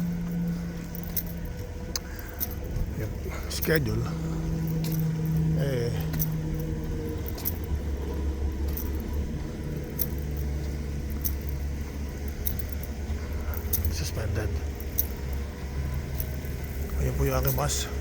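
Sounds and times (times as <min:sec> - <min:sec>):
jangling clicks: 0:00.0 - 0:18.0
vehicle engine idling: 0:00.0 - 0:18.0.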